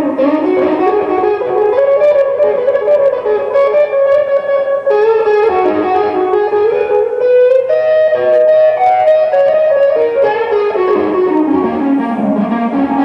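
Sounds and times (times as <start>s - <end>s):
electric guitar blues solo: 0.0s - 13.0s.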